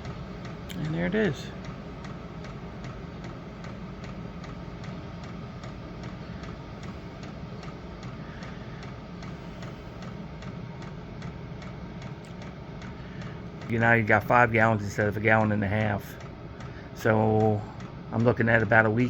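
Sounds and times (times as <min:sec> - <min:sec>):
fuel pump ticking: 0:00.0 - 0:19.0
heater humming: 0:00.0 - 0:19.0.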